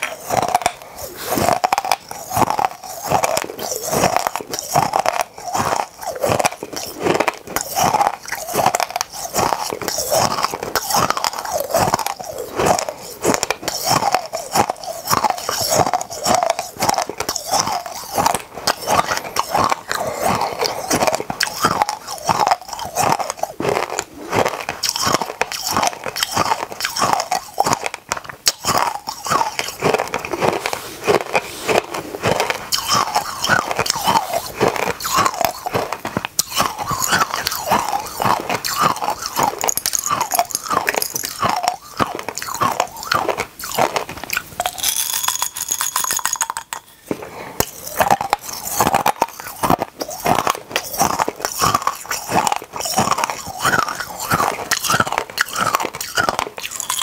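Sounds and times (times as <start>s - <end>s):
crunching and chewing candies: 0.0s - 57.0s.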